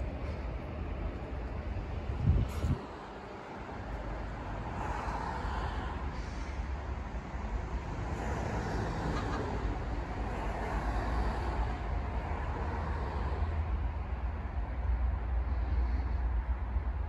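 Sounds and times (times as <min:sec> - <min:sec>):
distant traffic rumble and hiss: 0:00.0 - 0:17.0.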